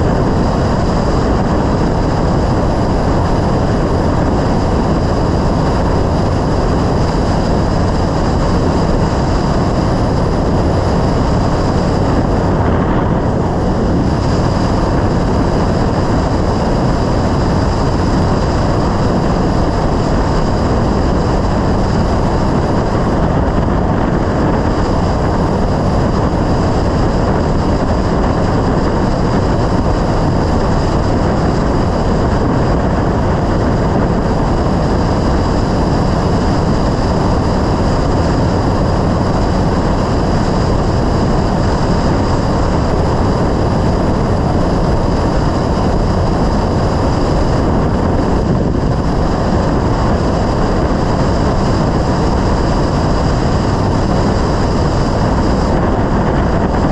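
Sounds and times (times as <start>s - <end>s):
motorcycle engine running: 0.0s - 56.9s
wind noise: 0.0s - 56.9s.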